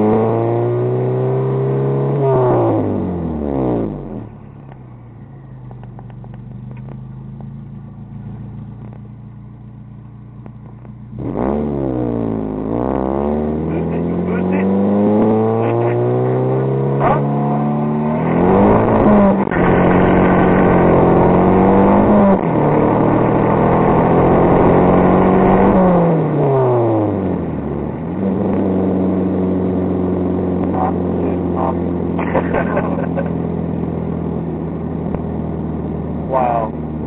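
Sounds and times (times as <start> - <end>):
turbo car engine revving: 0.0 - 37.0.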